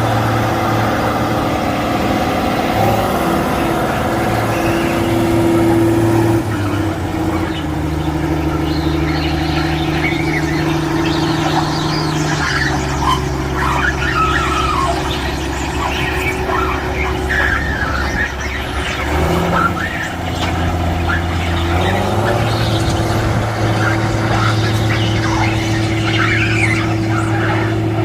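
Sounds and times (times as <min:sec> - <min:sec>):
tractor engine running: 0:00.0 - 0:28.0
high squeaks: 0:04.2 - 0:28.0.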